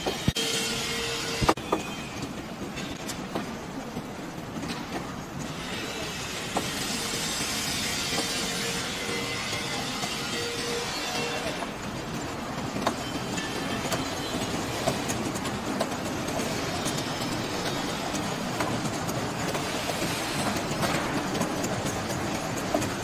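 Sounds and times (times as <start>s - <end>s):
conveyor machine running: 0.0s - 23.0s.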